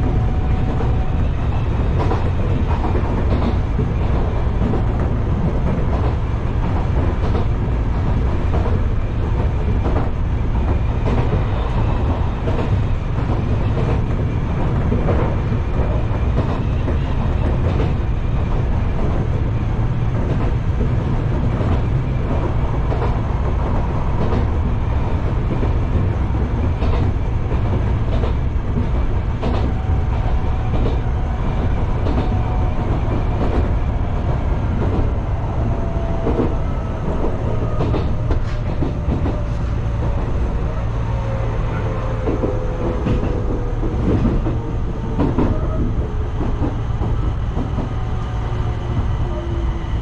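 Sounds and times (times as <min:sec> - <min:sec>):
train interior rumble: 0:00.0 - 0:50.0.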